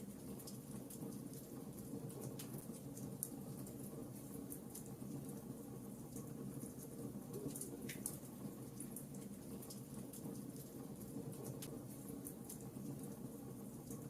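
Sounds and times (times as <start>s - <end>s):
logs burning in fireplace: 0.0s - 14.0s.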